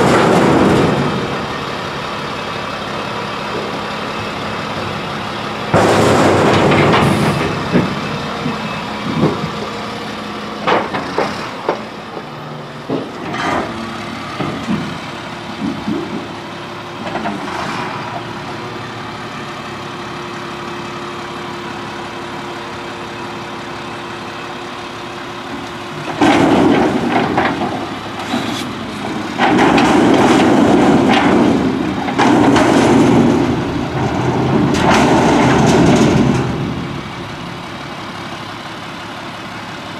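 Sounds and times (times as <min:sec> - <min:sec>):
garbage truck engine: 0:00.0 - 0:39.9.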